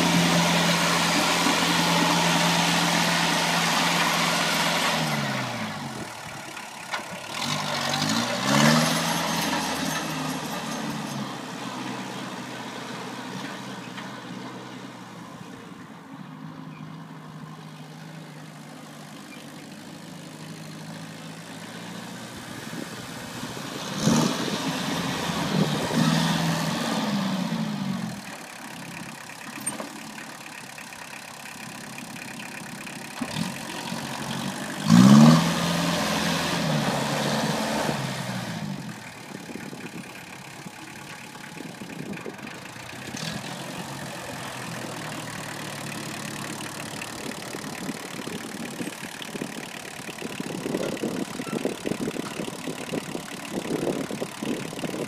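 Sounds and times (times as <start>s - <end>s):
diesel tractor engine revving: 0.0s - 15.2s, 17.0s - 55.0s.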